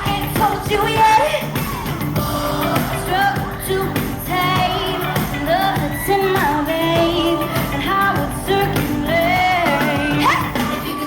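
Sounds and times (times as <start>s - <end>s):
live pop band: 0.0s - 11.0s
women singing: 0.0s - 11.0s.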